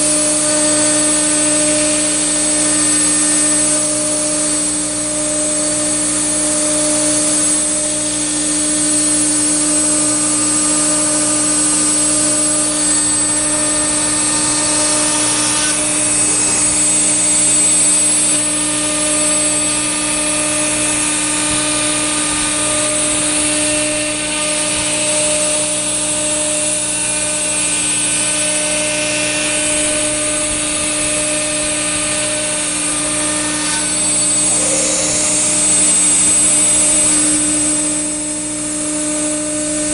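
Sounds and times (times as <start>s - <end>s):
cnc router spindle whine: 0.0s - 39.9s
cutting hiss: 0.0s - 39.9s.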